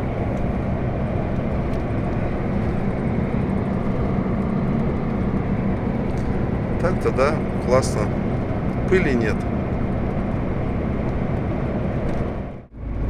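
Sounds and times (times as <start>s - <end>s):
diesel engine drone: 0.0s - 13.0s
road and wind noise: 0.0s - 13.0s.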